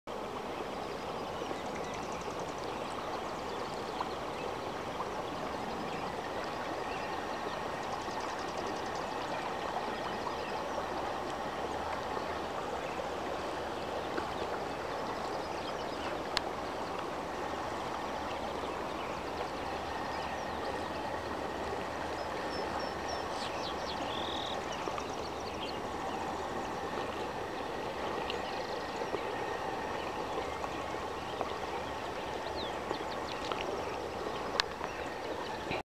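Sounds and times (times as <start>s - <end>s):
mountain stream running: 0.1s - 35.8s.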